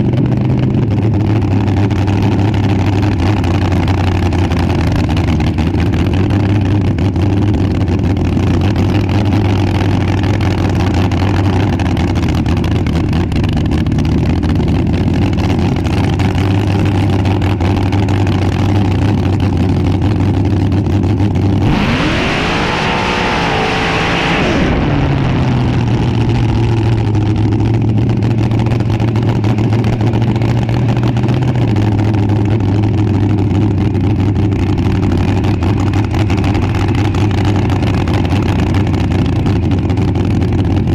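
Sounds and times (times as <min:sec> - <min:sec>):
dragster engine idling and revving: 0:00.0 - 0:40.9.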